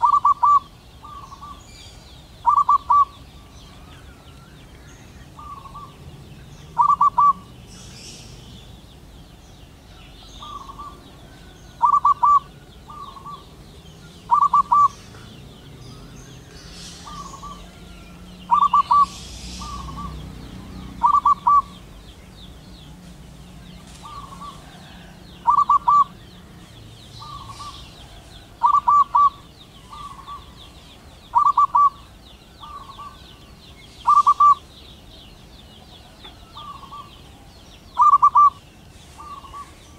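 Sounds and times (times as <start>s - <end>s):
dove cooing: 0.0s - 1.7s, 2.3s - 4.2s, 5.1s - 8.7s, 10.0s - 22.1s, 23.8s - 30.6s, 31.3s - 33.3s, 34.0s - 34.7s, 35.8s - 39.9s.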